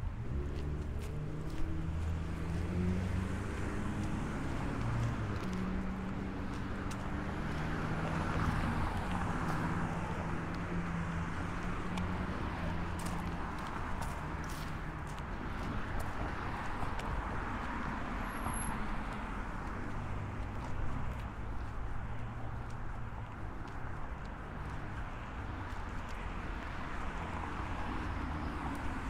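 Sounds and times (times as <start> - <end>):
cars passing: 0.0 - 29.0.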